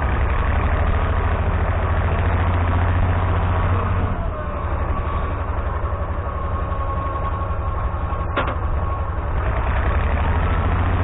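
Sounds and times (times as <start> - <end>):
diesel engine rumbling: 0.0 - 11.0
engine whine: 0.0 - 11.0.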